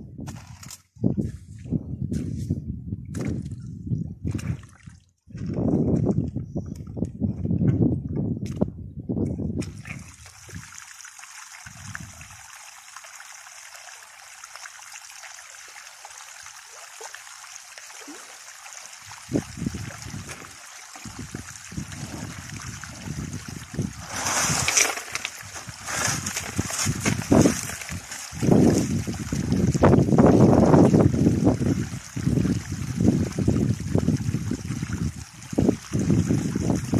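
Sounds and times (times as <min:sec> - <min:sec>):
water trickling and splashing: 0:03.1 - 0:07.8, 0:09.6 - 0:36.9.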